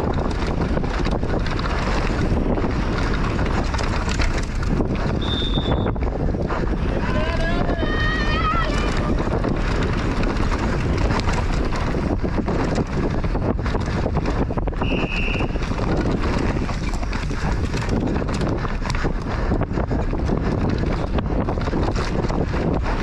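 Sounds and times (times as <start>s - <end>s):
bike rattling on rough ground: 0.0s - 23.0s
wind buffeting microphone: 0.0s - 23.0s.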